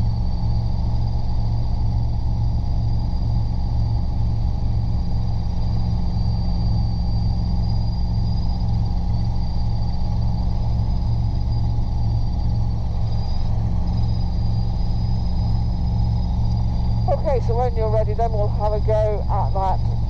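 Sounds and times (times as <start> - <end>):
helicopter engine and rotor drone: 0.0 - 20.0
high-pitched whine: 0.0 - 20.0.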